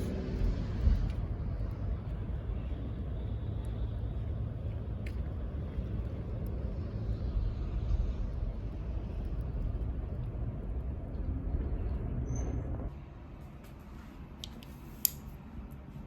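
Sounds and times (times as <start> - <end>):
vehicle rumble: 0.0 - 16.0.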